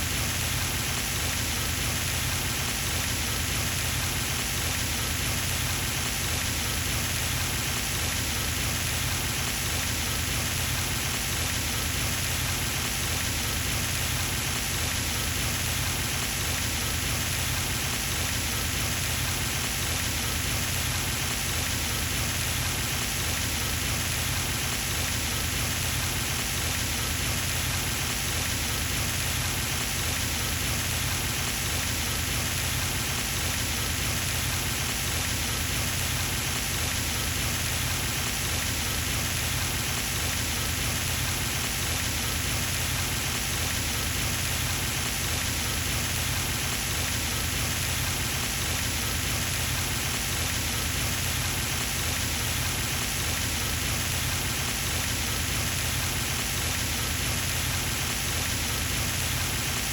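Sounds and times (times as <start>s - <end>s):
fountain water splashing: 1.3s - 59.9s.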